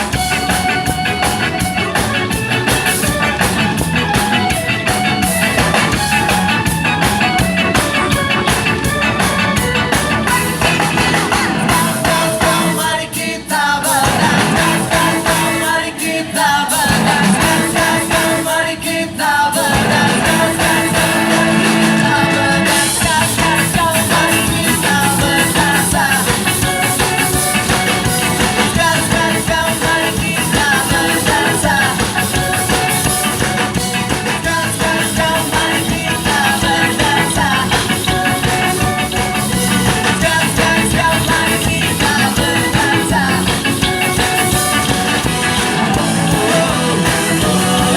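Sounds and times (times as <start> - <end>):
ska band with singer: 0.0 - 47.9.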